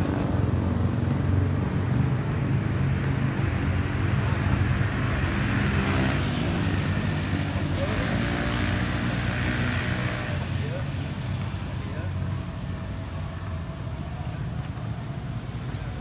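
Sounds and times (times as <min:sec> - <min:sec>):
road traffic: 0:00.0 - 0:16.0
vehicle engine humming: 0:00.0 - 0:16.0.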